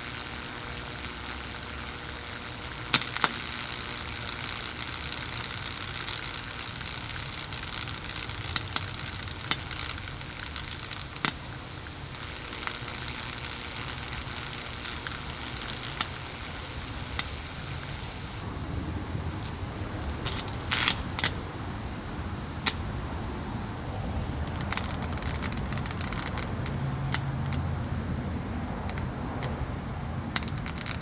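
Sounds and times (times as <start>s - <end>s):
fan motor sizzling and crackling: 0.0s - 31.0s
sharp pops: 0.1s - 18.5s, 19.2s - 21.5s, 22.5s - 23.0s, 24.3s - 31.0s.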